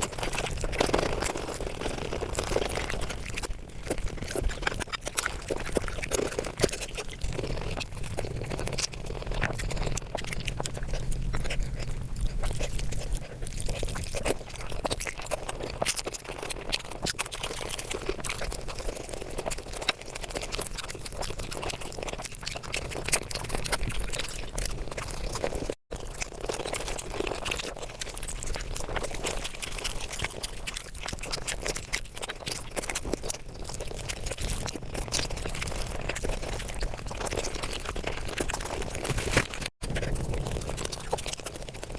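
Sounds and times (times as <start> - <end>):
sped-up chewing and crunching: 0.0 - 41.9.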